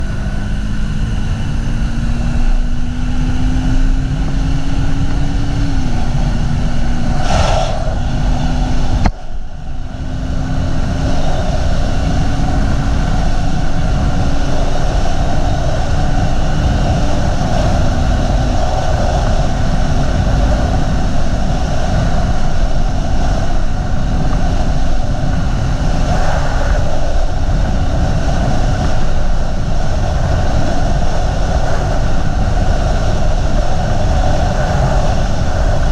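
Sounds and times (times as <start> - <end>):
wind blast on microphone: 0.0 - 35.9.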